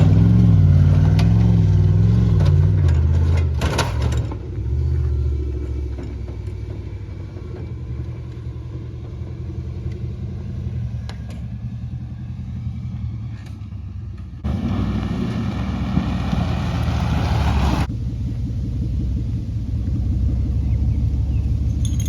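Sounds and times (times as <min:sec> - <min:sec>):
truck engine low rumble: 0:00.0 - 0:22.0.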